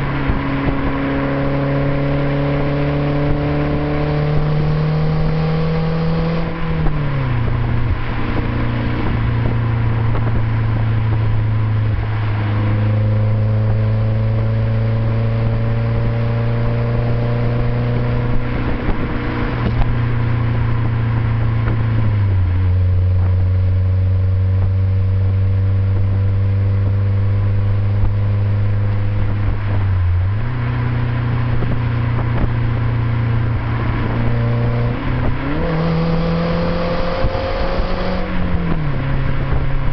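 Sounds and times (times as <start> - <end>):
car engine exhaust note: 0.0 - 39.9.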